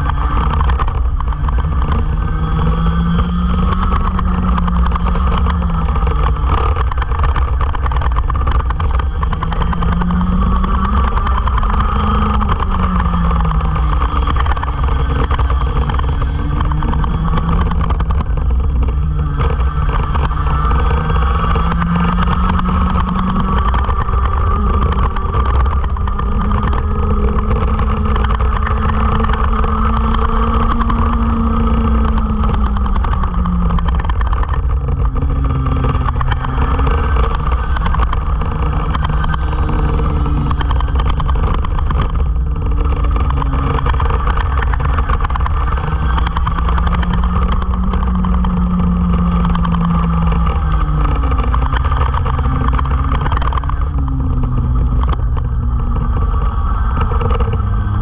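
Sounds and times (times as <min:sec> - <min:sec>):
racing engine accelerating: 0:00.0 - 0:58.0
wind rumble on camera: 0:00.0 - 0:58.0.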